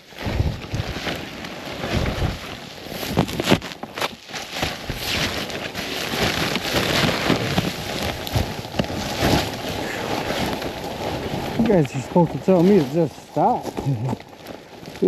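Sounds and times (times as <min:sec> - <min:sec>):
continuous rustling: 0:00.0 - 0:15.0
snowshoe footsteps crunching: 0:00.0 - 0:15.0.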